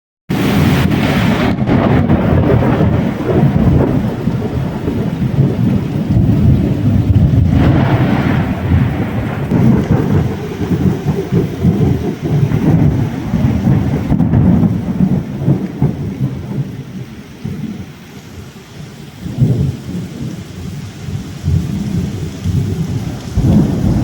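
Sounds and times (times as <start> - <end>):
rumble of thunder: 0.3 - 18.0, 18.8 - 24.0
heavy rain: 0.3 - 24.0.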